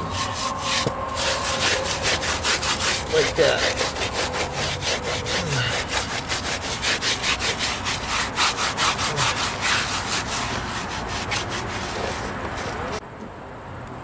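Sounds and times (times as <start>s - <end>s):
wet sponge scrubbing cement: 0.0s - 13.0s.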